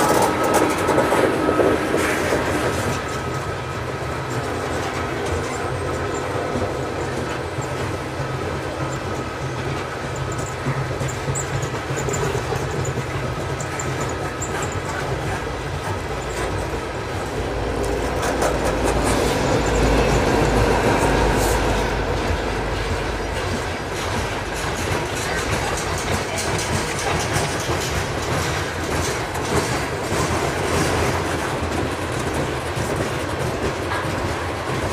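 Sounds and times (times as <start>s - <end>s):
freight train rolling past: 0.0s - 34.9s
wheels clicking over rail joints: 0.0s - 34.9s.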